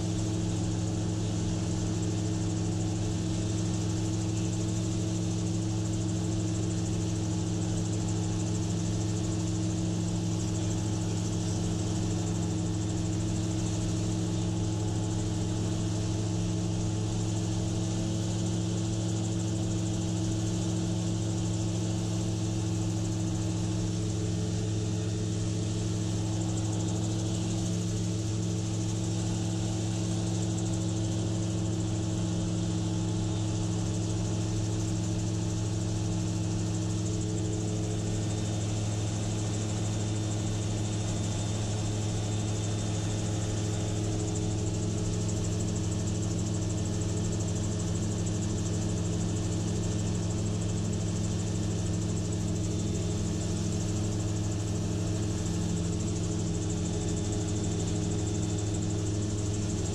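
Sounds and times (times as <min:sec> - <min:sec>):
gyrocopter engine running: 0:00.0 - 0:59.9.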